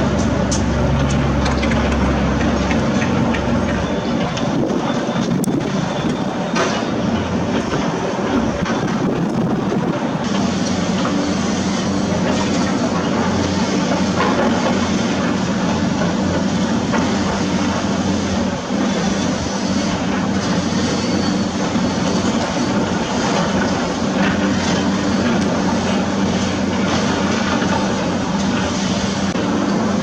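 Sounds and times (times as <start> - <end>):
diesel engine droning under load: 0.0 - 30.0
mechanical rumble: 0.0 - 30.0.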